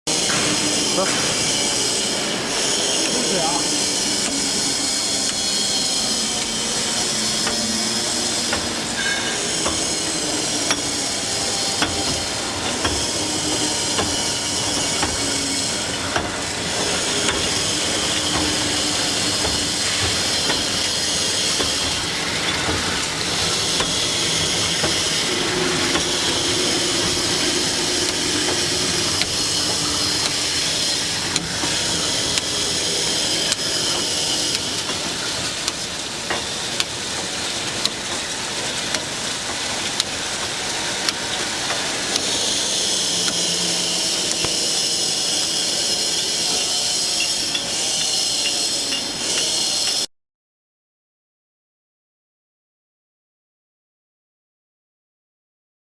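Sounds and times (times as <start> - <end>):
hiss of spray and machinery: 0.1 - 50.1.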